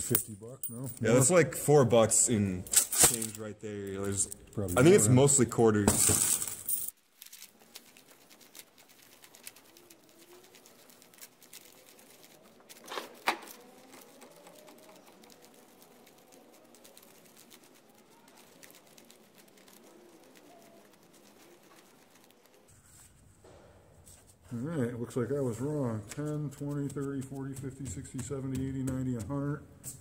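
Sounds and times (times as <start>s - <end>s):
paper bills rustling and flicking: 2.2s - 23.1s, 25.3s - 30.0s.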